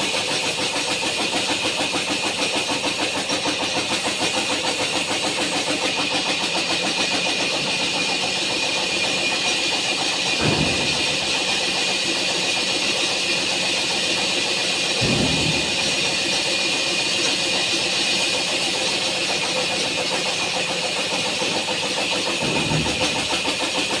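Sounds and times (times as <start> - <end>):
wood-cutting machine running: 0.0 - 24.0.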